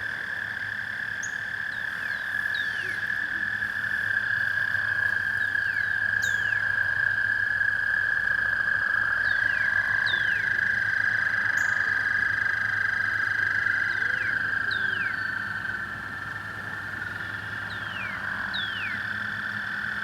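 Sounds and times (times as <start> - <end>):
toads trilling: 0.0 - 20.0.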